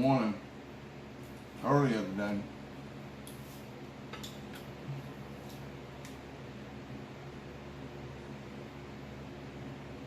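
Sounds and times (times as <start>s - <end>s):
low even hum: 0.0s - 10.0s.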